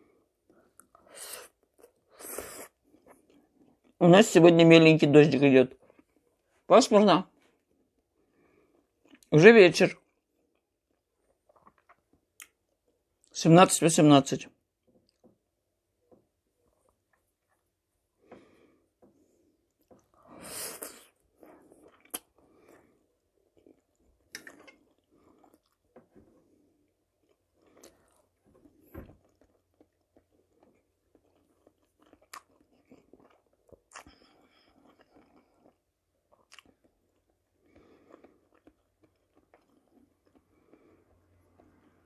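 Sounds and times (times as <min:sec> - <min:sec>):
faint chewing: 0:00.0 - 0:04.0, 0:10.0 - 0:13.3, 0:14.8 - 0:15.4, 0:16.0 - 0:42.0.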